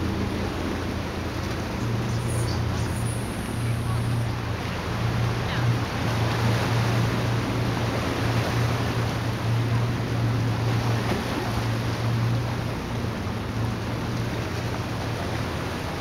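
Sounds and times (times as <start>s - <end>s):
sea noise at shoreline: 0.0s - 16.0s
steady low hum: 0.0s - 16.0s
wind: 0.0s - 16.0s.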